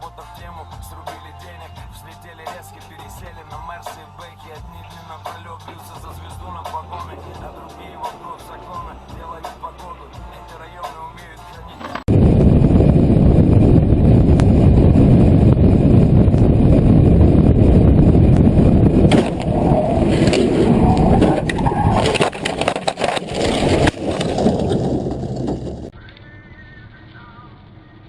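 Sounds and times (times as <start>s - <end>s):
vehicle rumbling: 0.8s - 28.0s.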